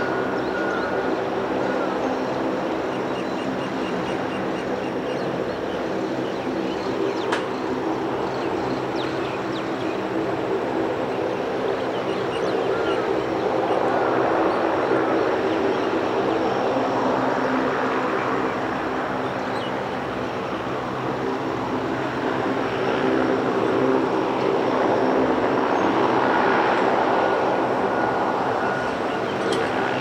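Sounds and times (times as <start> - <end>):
aircraft engines droning: 0.0 - 30.0.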